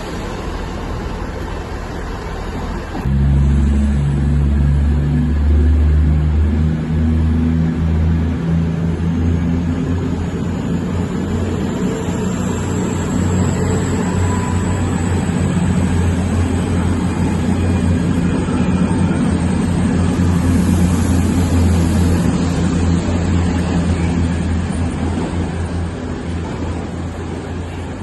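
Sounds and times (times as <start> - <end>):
diesel train engine drone: 0.0 - 28.0.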